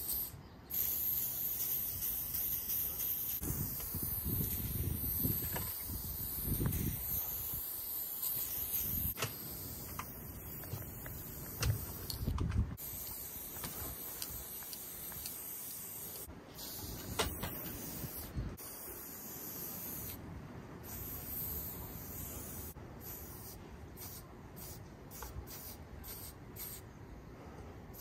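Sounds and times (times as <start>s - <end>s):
spray-paint can hissing: 0.0s - 20.2s, 20.8s - 26.8s.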